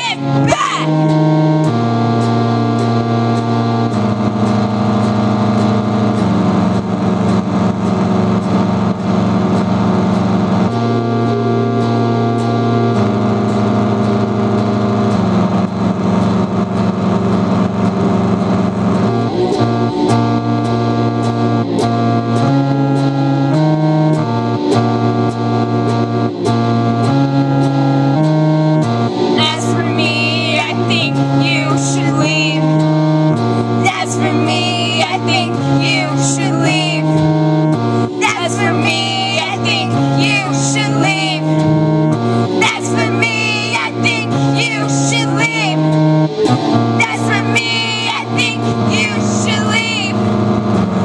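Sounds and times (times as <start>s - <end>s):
electric guitar chords: 0.0s - 51.0s
electronic keyboard chords: 0.0s - 51.0s.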